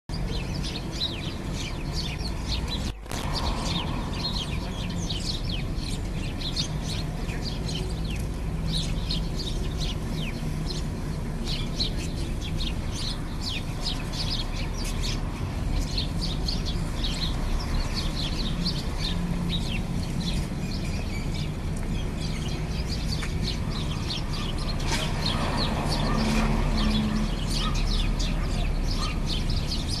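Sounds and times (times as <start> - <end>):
sparrows chirping: 0.1 - 30.0.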